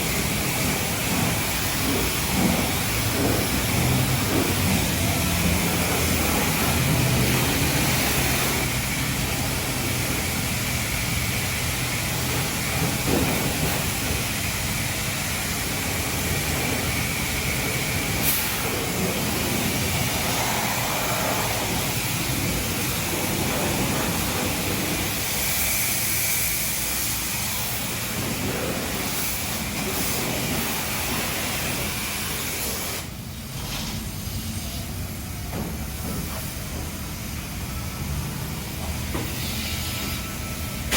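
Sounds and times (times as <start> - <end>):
pressure washer spraying water: 0.0 - 35.8, 36.4 - 40.9.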